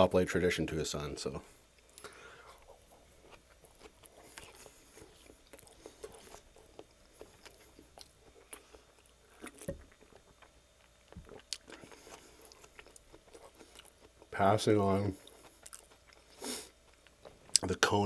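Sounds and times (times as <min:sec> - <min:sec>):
wet chewing and mouth smacks: 0:01.8 - 0:14.4, 0:15.1 - 0:17.7.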